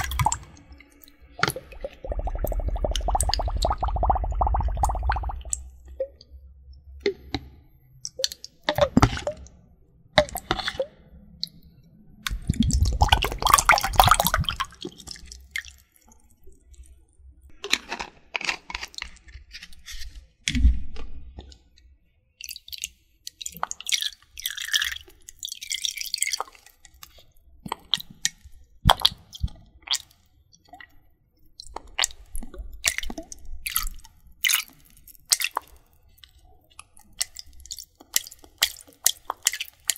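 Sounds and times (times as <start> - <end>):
wet squishing: 0.0 - 6.3, 7.0 - 21.7, 22.4 - 39.9
water dripping: 0.0 - 17.6, 22.4 - 39.9.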